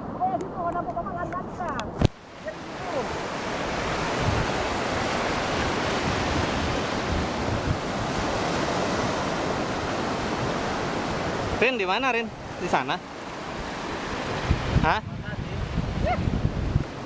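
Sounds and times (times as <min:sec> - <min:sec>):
wind buffeting microphone: 0:00.0 - 0:11.6, 0:13.3 - 0:17.0
wind and sea rushing: 0:00.0 - 0:17.0.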